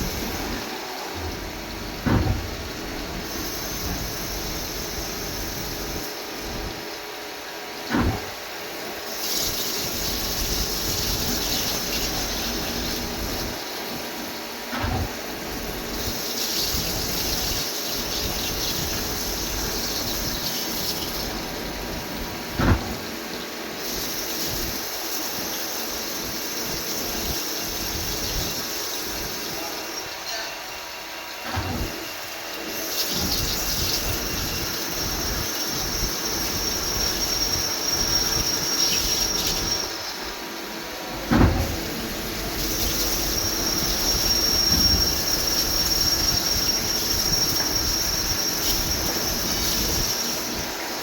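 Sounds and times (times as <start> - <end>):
machine hiss: 0.0 - 7.2, 7.8 - 51.0
machine mechanical hum: 0.0 - 51.0.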